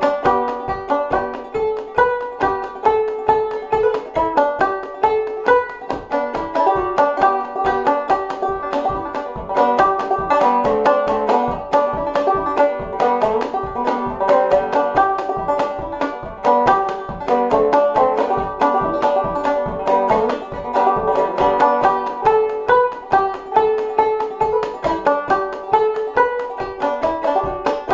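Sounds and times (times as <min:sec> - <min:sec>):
banjo playing a fast reel: 0:00.0 - 0:27.9.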